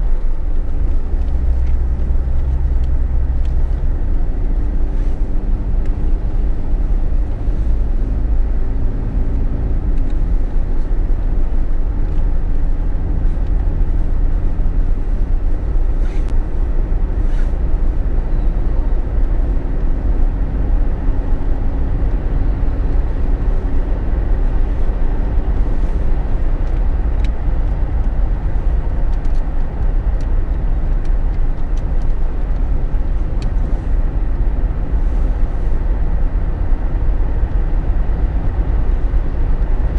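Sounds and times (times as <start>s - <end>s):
car engine hum: 0.0s - 39.9s.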